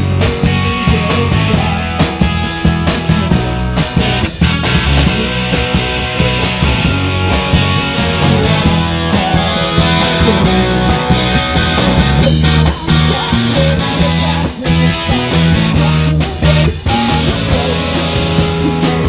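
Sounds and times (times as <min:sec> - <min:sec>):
drum kit: 0:00.0 - 0:19.0
electric bass: 0:00.0 - 0:19.0
electric guitar: 0:00.0 - 0:19.0
man singing lead vocal: 0:00.0 - 0:19.0.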